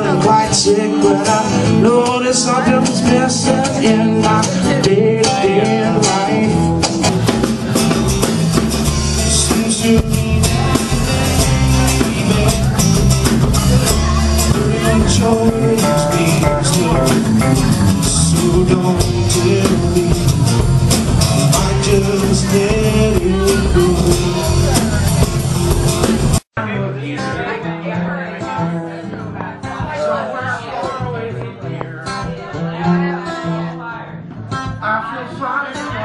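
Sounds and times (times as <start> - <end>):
acoustic guitar strummed: 0.0 - 36.0.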